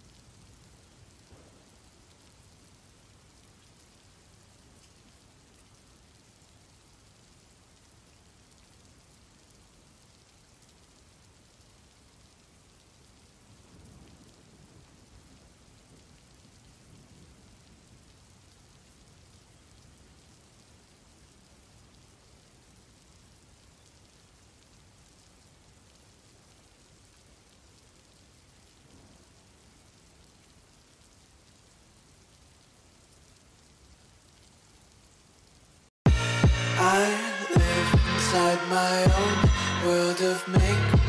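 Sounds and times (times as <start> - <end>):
rain hiss: 0.0 - 41.0.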